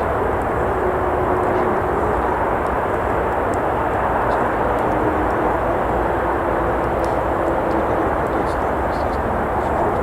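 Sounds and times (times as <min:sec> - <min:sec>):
campfire crackles: 0:00.0 - 0:10.0
traffic rumble: 0:00.0 - 0:10.0.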